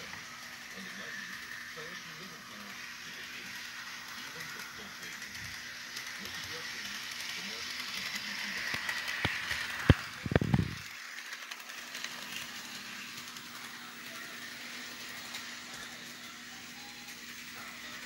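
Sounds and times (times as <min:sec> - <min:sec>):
model locomotive whirring: 0:00.0 - 0:18.0.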